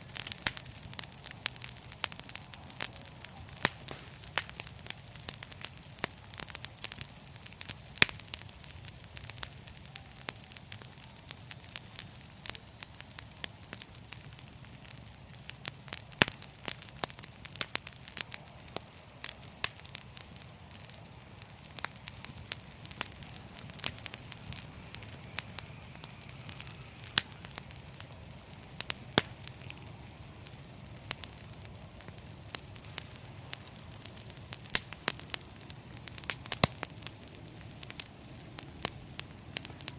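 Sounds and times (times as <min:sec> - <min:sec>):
fireplace fire crackling: 0:00.0 - 0:39.9
low rush of flame: 0:00.0 - 0:39.9.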